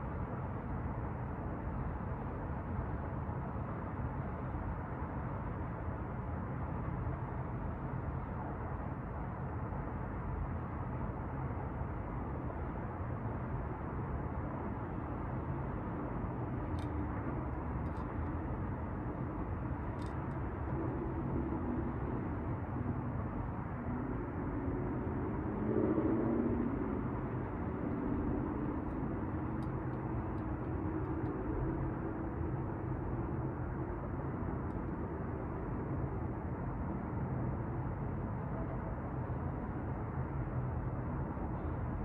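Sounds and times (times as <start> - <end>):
city traffic rumble: 0.0 - 42.0.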